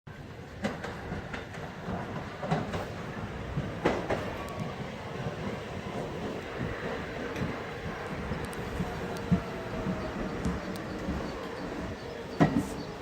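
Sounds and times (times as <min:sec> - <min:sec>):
subway train rumbling: 0:00.1 - 0:13.0
wheels clacking over rail joints: 0:00.4 - 0:13.0.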